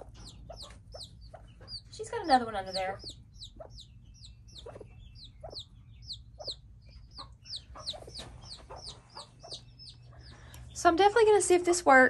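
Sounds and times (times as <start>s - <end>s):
hen clucking: 0.0s - 11.0s
chicks peeping: 0.0s - 11.9s.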